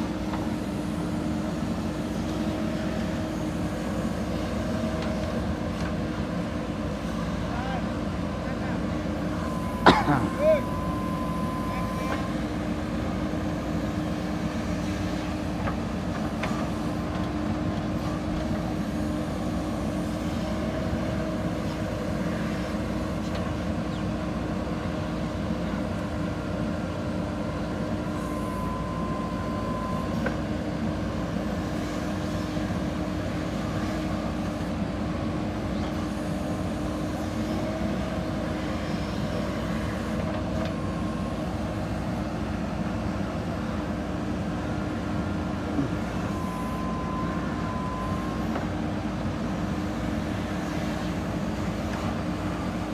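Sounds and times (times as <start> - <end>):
diesel engine running: 0.0 - 52.9
high engine whines: 0.0 - 52.9.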